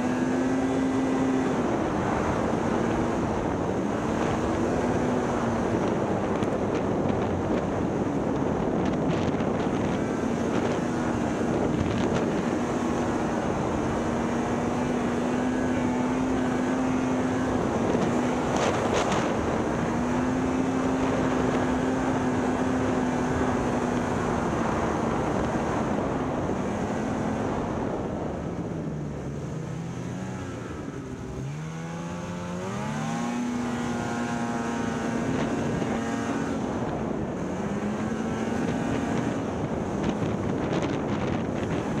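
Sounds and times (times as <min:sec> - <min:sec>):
snowmobile engine running: 0:00.0 - 0:42.0
snowmobile track noise: 0:00.0 - 0:42.0
wind: 0:00.0 - 0:42.0.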